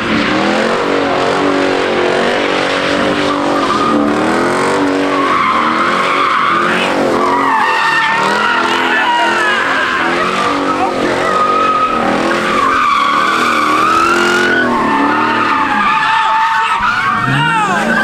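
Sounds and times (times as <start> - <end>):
car engine revving: 0.0 - 18.0
tyres squealing: 2.8 - 18.0.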